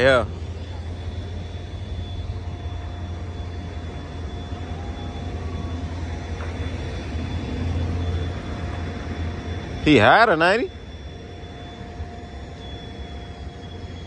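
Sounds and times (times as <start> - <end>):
traffic noise: 0.0 - 14.0
vehicle engine rumble: 0.0 - 14.0.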